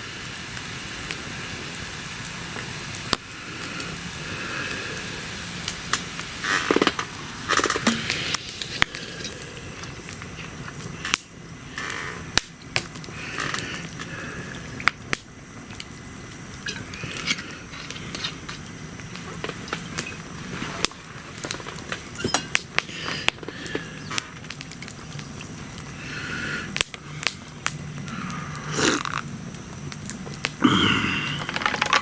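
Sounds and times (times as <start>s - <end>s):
campfire crackling and popping: 0.0s - 32.0s
fire sputtering bursts: 0.0s - 32.0s.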